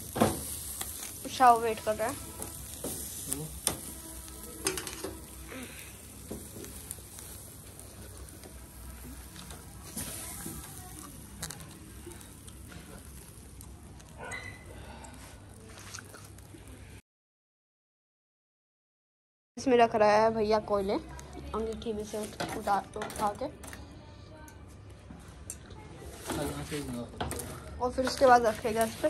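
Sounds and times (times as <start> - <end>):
chicken sizzling on charcoal grill: 0.0 - 17.0, 20.5 - 23.8, 26.0 - 29.0.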